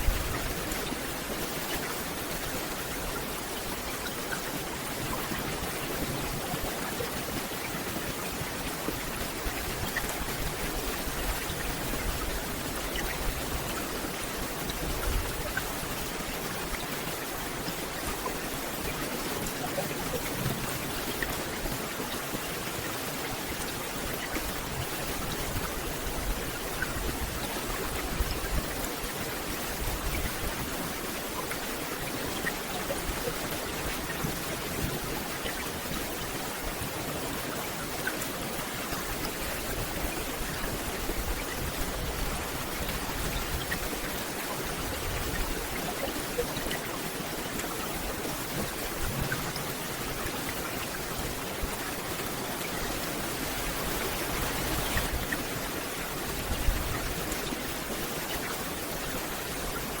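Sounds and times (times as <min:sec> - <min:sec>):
rain on foliage: 0:00.0 - 1:00.0.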